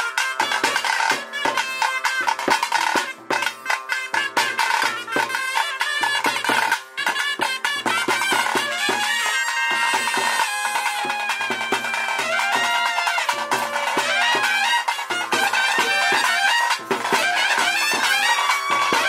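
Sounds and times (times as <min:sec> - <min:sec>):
rapid drumming: 0:00.0 - 0:19.0
reed wind instrument melody: 0:00.0 - 0:19.0.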